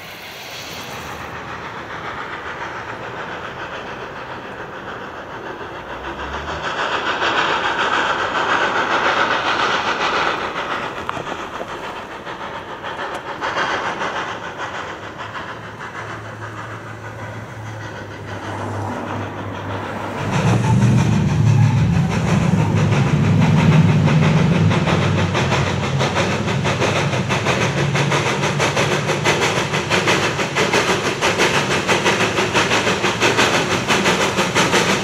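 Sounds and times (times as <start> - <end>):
steam hissing: 0.0 - 35.0
steam locomotive chuffing: 0.0 - 35.0.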